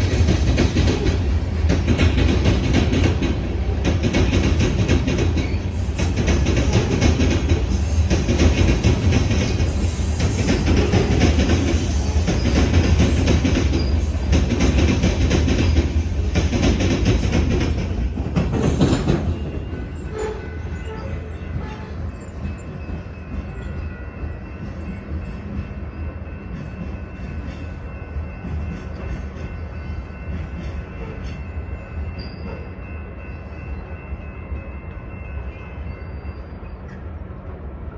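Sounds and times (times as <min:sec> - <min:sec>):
train cars rolling past: 0:00.0 - 0:37.9.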